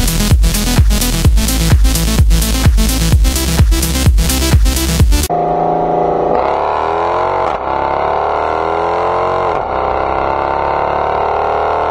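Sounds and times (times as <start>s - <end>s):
car engine accelerating hard: 2.0s - 11.9s.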